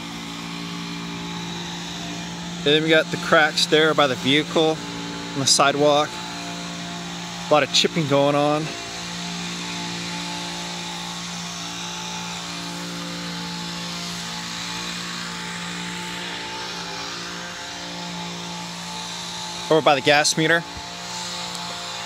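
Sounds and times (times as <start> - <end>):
small garden engine running: 0.0 - 22.0.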